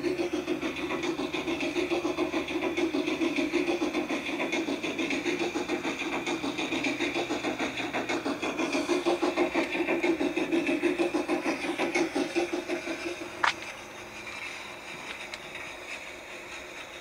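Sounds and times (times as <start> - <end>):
steam locomotive chuffs from loudspeaker: 0.0 - 17.0.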